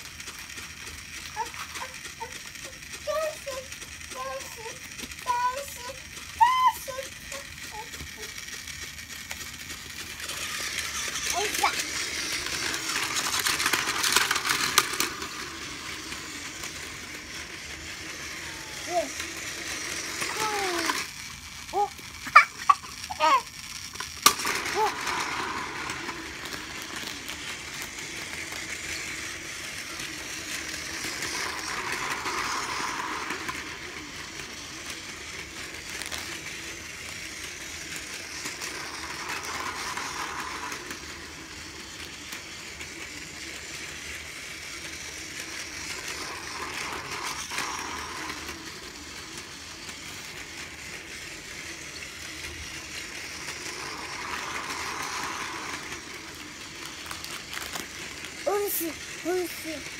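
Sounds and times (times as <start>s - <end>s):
toy train motor whir: 0.0s - 59.9s
toy train wheel rattle: 0.0s - 59.9s.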